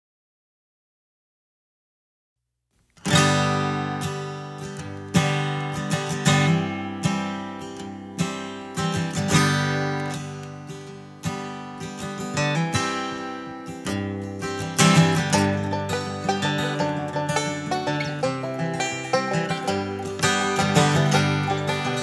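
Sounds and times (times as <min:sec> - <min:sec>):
acoustic guitar strumming: 0:03.0 - 0:22.0.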